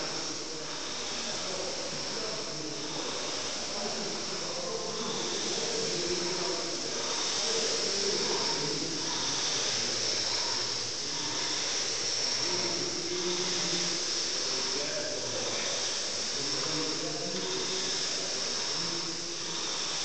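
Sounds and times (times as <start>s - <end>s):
rowing machine flywheel whooshing: 0.0s - 20.0s.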